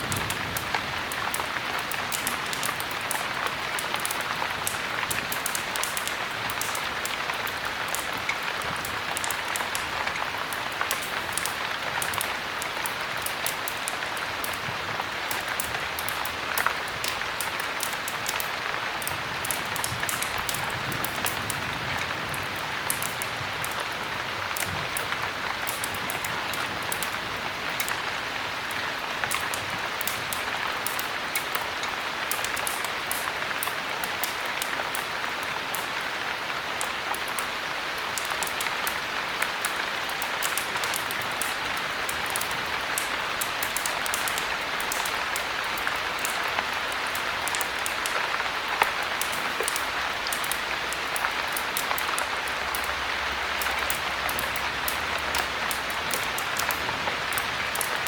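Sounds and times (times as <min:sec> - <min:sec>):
heavy rain hissing and ticking: 0:00.0 - 0:58.0.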